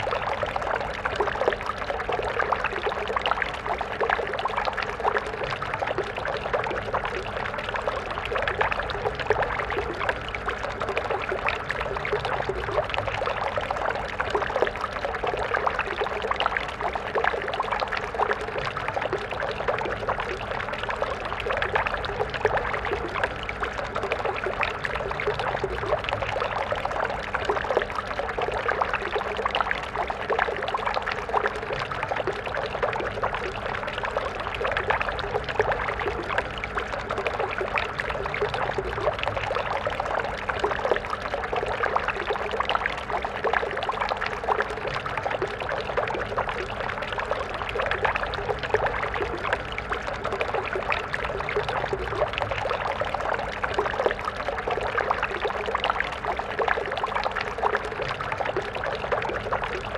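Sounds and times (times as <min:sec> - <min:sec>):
stream water flowing and splashing: 0:00.0 - 0:59.9.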